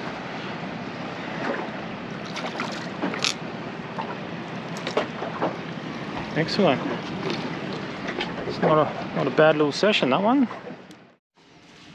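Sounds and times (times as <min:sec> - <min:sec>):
water around a boat: 0:00.0 - 0:11.9
wind: 0:00.0 - 0:11.9.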